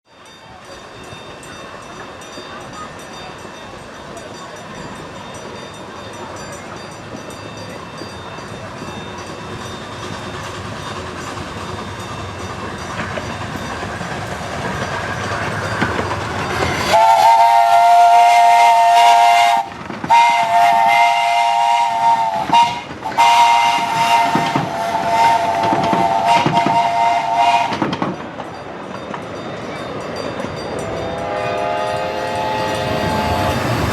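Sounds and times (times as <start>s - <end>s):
steam locomotive chime whistle: 0.1s - 28.0s, 29.7s - 33.9s
train running noise: 0.1s - 33.9s.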